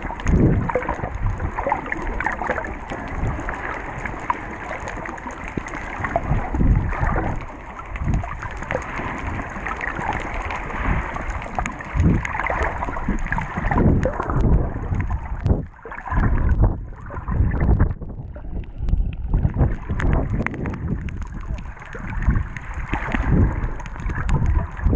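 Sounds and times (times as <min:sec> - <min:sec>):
underwater churning and bubbles: 0:00.0 - 0:24.9.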